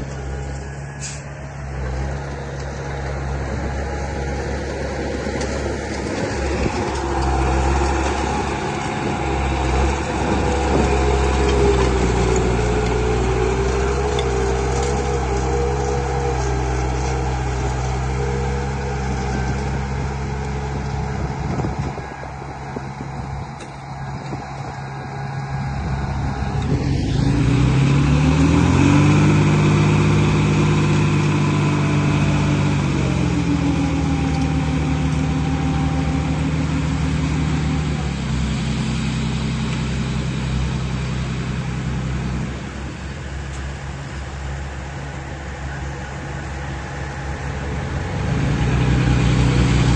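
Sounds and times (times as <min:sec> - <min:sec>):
small engine revving: 0:01.8 - 0:42.6, 0:45.6 - 0:49.9.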